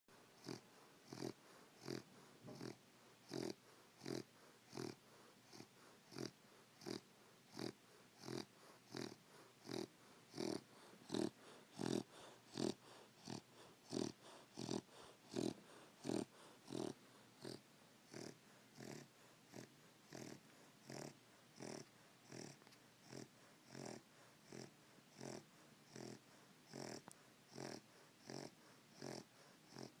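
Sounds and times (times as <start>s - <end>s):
puppy snoring: 0.1s - 30.0s.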